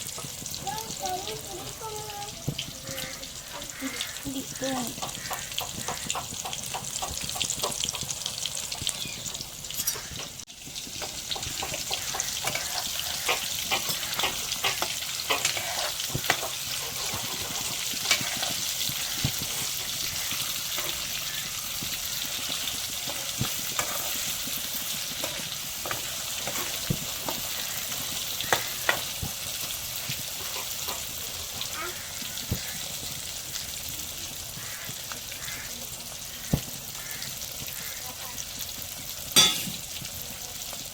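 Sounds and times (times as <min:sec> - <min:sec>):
roe frying in hot oil: 0:00.0 - 0:40.9.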